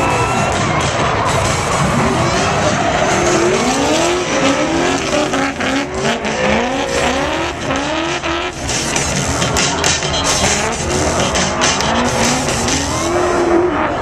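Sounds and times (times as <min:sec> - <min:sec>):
car engines revving high: 0:00.0 - 0:14.0.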